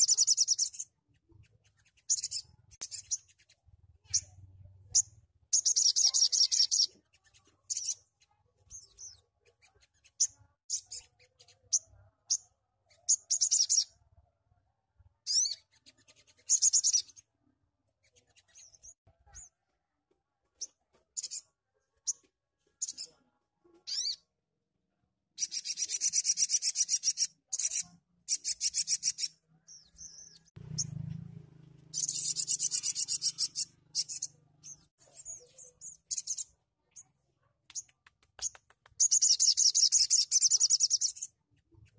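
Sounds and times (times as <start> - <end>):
bird trilling and chirping: 0.0 - 14.0, 15.2 - 17.2, 18.0 - 19.5, 20.6 - 23.2, 23.8 - 24.3, 25.4 - 31.1, 31.8 - 37.1, 37.8 - 41.9.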